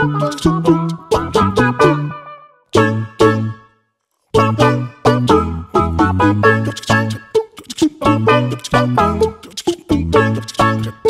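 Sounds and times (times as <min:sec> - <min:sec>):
bass line: 0:00.0 - 0:03.7, 0:04.4 - 0:07.4, 0:08.0 - 0:11.0
keyboard accompaniment: 0:00.0 - 0:03.8, 0:04.4 - 0:11.0.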